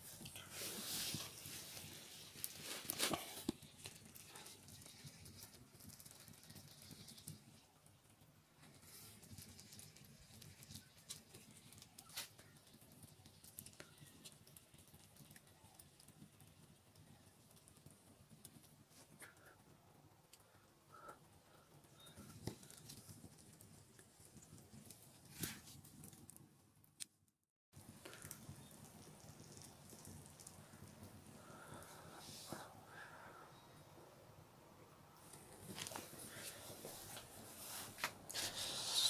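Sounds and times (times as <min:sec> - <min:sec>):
faint clicks and crackles: 0:00.0 - 0:33.7, 0:35.1 - 0:39.0.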